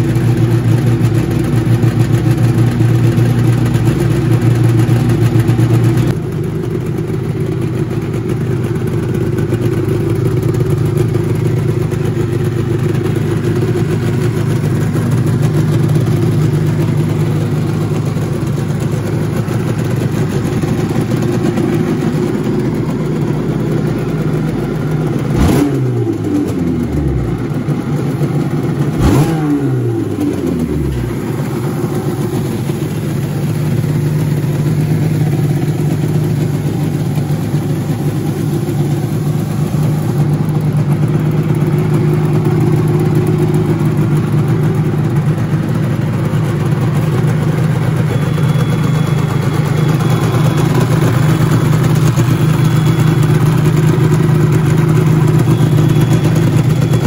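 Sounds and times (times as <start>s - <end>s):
motorcycle engine revving and idling: 0.0s - 57.0s.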